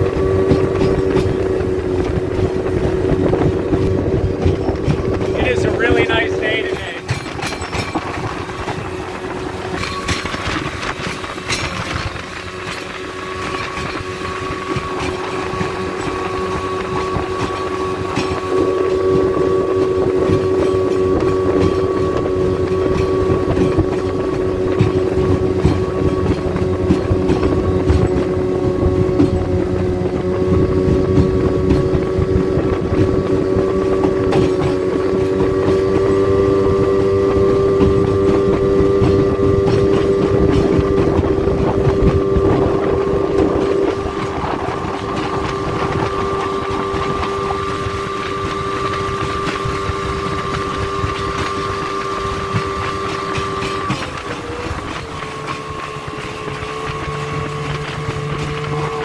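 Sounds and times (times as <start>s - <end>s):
outboard motor running: 0.0s - 59.0s
wind and water rushing: 0.0s - 59.0s.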